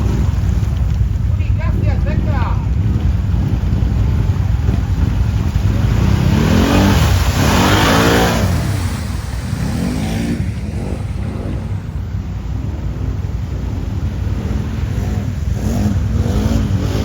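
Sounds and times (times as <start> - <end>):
quad engine revving: 0.0 - 17.0
wind rumble on microphone: 0.0 - 17.0.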